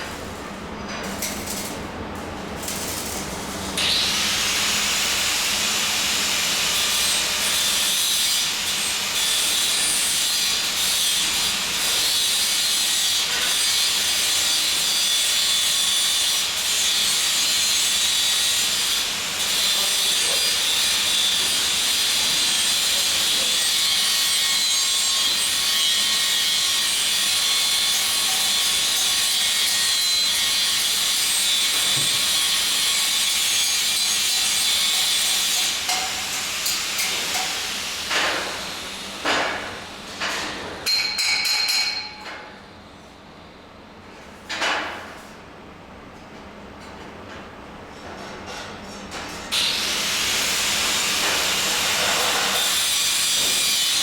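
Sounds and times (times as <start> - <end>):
arc welding hiss and crackle: 0.0 - 40.5, 49.5 - 54.0.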